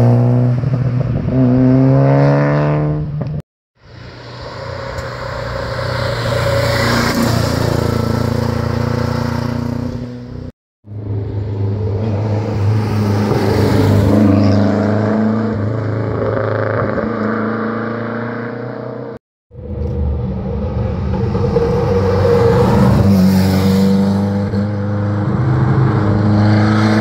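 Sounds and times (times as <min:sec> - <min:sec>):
rally car engine passing: 0:04.0 - 0:27.0.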